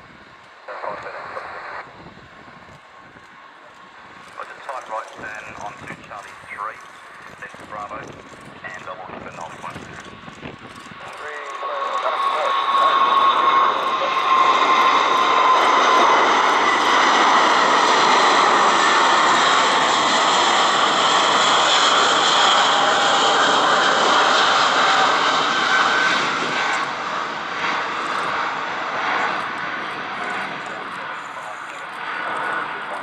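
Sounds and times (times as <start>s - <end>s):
jet engines roaring with whine: 0.0s - 33.0s.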